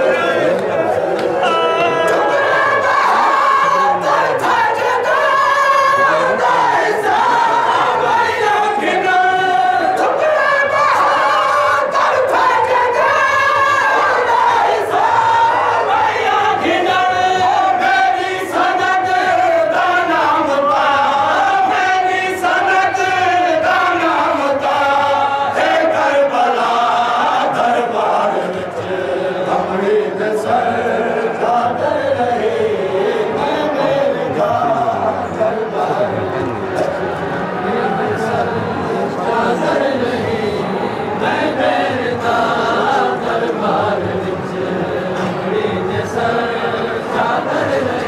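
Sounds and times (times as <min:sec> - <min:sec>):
voices singing a lament: 0:00.0 - 0:48.0.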